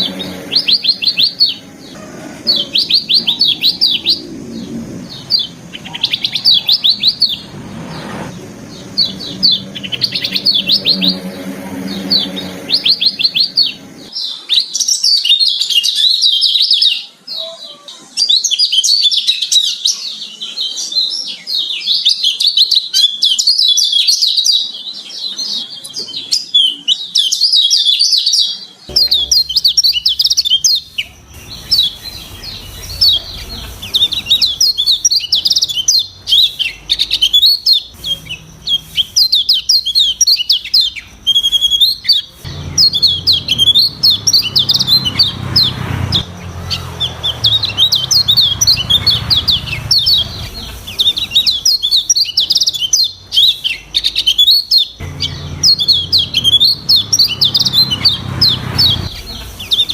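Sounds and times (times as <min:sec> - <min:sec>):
bird twittering song: 0:00.0 - 0:17.5, 0:18.2 - 0:59.9.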